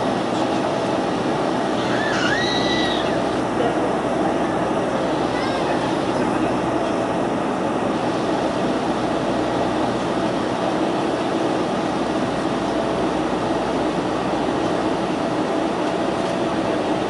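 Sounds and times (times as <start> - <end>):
turboprop cabin drone: 0.0 - 17.0.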